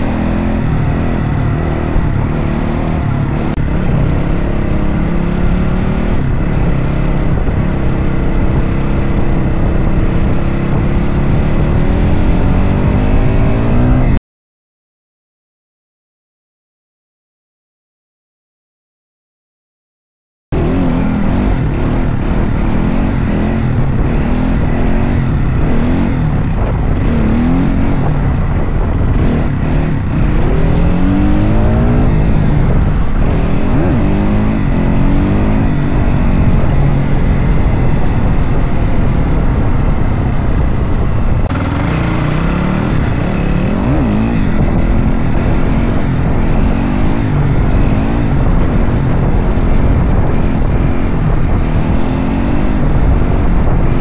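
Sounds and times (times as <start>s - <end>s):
dirt bike engine revving: 0.0s - 14.2s, 20.6s - 54.0s
road noise: 0.0s - 14.2s, 20.5s - 54.0s.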